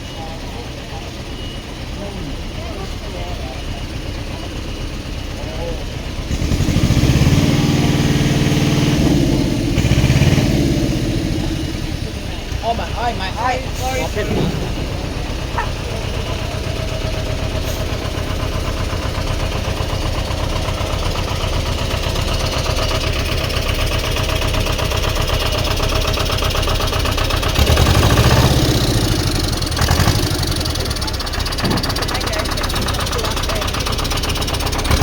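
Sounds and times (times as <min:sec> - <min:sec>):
heavy vehicle engine idling: 0:00.0 - 0:35.0.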